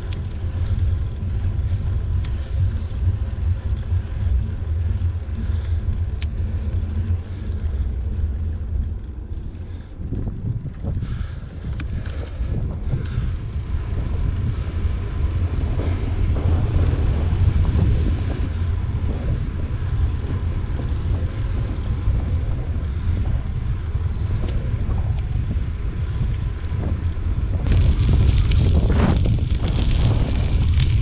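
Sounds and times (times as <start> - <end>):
bike tyres rolling on tarmac: 0.0 - 31.0
wind buffeting microphone: 0.0 - 31.0.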